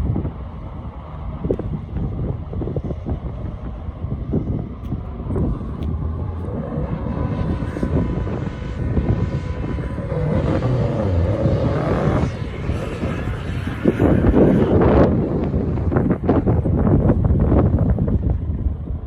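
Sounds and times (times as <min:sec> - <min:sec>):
wind buffeting microphone: 0:00.0 - 0:19.0
vehicle engine running: 0:00.7 - 0:19.0.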